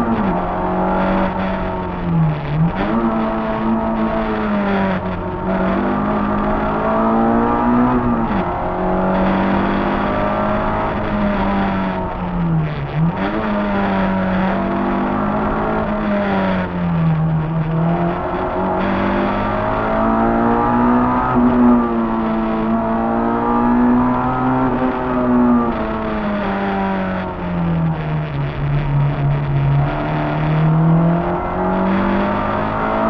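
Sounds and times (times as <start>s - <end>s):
car engine revving high: 0.0s - 33.0s.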